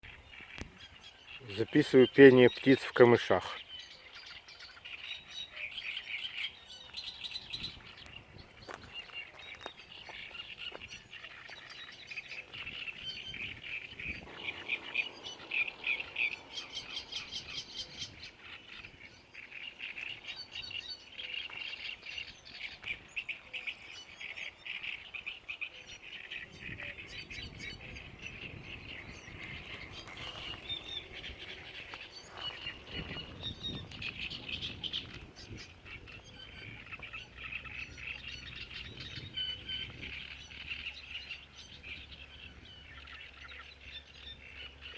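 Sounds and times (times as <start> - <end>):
songbirds singing: 0.0 - 44.9.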